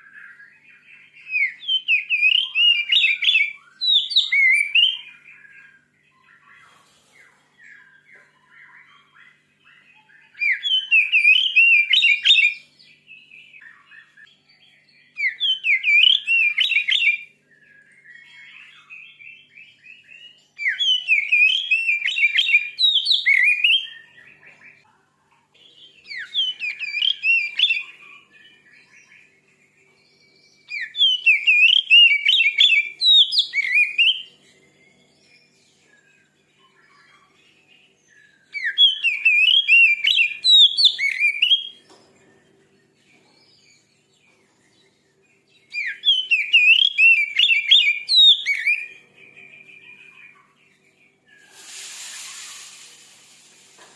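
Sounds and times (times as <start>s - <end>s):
bird singing whistled notes: 0.0s - 6.5s, 7.6s - 24.8s, 25.8s - 41.9s, 42.8s - 53.1s
soft bird twittering: 0.0s - 53.9s.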